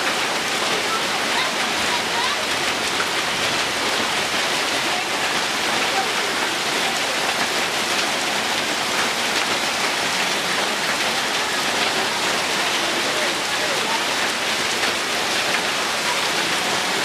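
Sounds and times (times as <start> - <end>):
rain falling on grass: 0.0 - 17.0.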